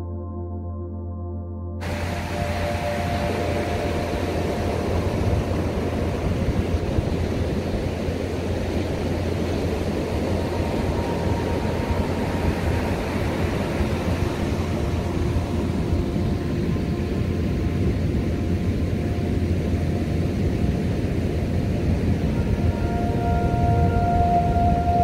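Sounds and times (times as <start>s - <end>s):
deep steady rumble: 1.8s - 25.0s
ocean surf breaking on beach: 1.8s - 25.0s.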